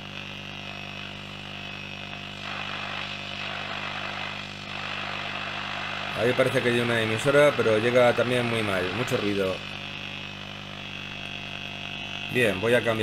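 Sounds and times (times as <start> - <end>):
low mains hum: 0.0 - 13.0
radio static and hiss: 0.0 - 13.0.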